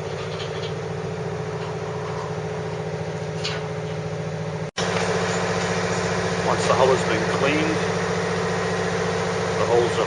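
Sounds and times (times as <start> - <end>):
engine-like machine hum: 0.0 - 10.0.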